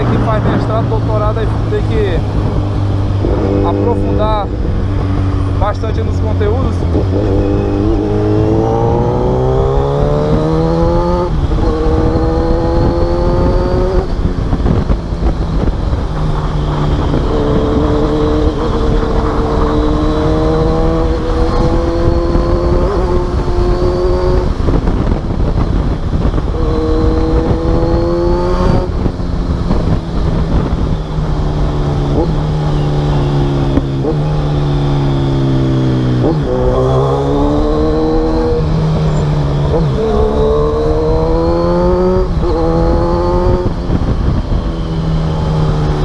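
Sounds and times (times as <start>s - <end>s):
motorcycle engine revving through gears: 0.0s - 46.0s.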